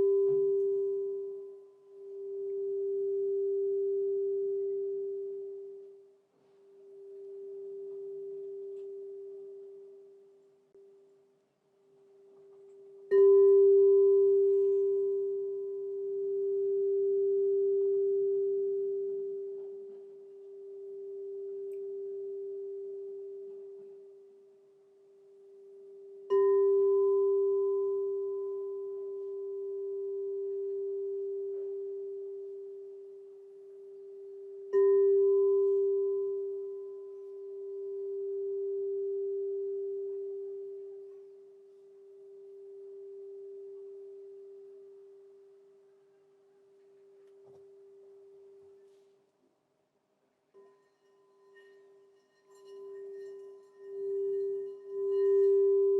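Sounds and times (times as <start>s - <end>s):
crystal singing bowl ringing: 0.0s - 6.2s, 6.8s - 10.4s, 12.3s - 46.0s, 50.5s - 55.9s.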